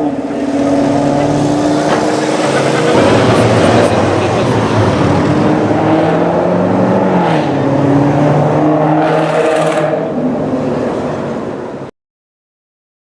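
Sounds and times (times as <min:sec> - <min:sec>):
car engine droning: 0:00.0 - 0:11.9.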